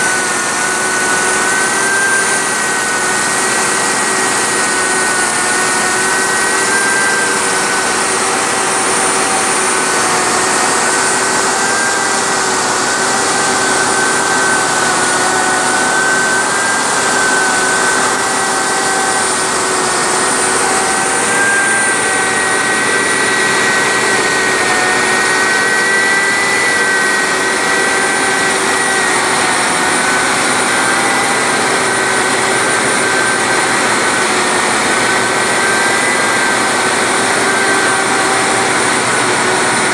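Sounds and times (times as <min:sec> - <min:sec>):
grinding machine whine: 0:00.0 - 0:39.9.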